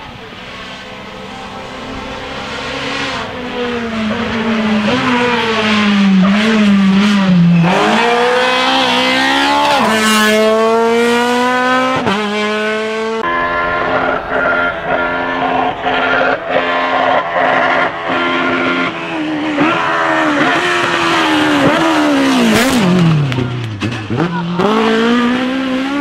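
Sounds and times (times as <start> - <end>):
another rally car engine: 0.0 - 26.0
rally car engine revving: 0.0 - 26.0.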